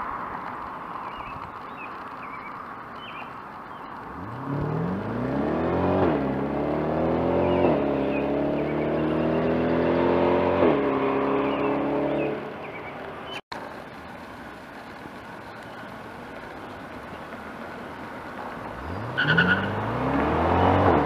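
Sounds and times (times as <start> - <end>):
gear upshifts: 0.0 - 21.0
car engine accelerating: 3.9 - 21.0.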